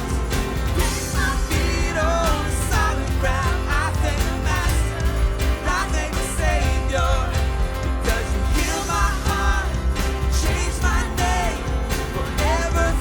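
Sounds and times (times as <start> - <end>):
drums beating: 0.0 - 13.0
live band playing: 0.0 - 13.0.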